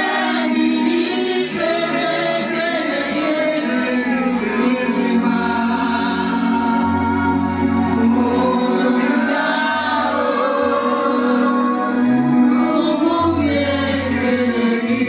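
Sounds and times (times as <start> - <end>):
choir singing gospel: 0.0 - 15.0
sustained chords: 0.0 - 15.0.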